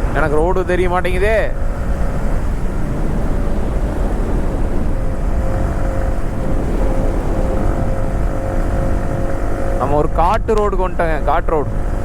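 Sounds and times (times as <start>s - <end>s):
motorcycle engine hum: 0.0s - 12.0s
wind rushing over microphone: 0.0s - 12.0s.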